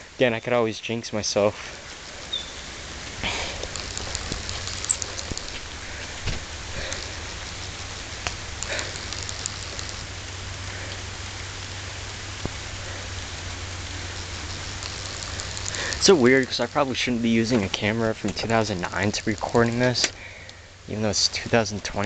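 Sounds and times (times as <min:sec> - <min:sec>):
steady rain falling: 0:00.0 - 0:22.0
raindrops tapping close by: 0:01.7 - 0:22.0.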